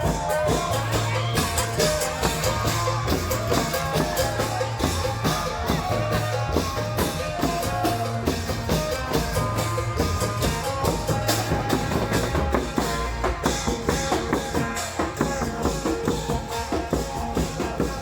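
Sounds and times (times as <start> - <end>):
drums in driving rhythm: 0.0 - 18.0.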